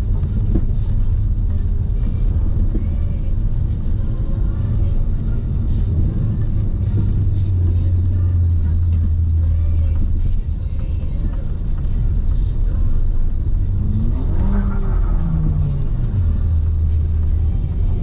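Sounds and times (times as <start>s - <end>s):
car engine and tyres drone: 0.0s - 18.0s.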